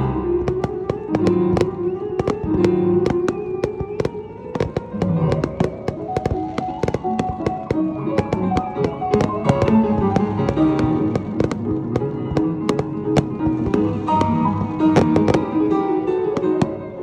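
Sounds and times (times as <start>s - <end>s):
fireworks bangs and crackles: 0.0s - 17.0s
piano music: 0.0s - 17.0s.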